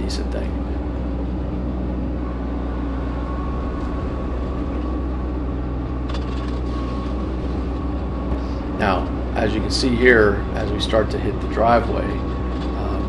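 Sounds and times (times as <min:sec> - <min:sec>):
diesel tractor engine running: 0:00.0 - 0:13.0
thin steady whine: 0:00.0 - 0:13.0.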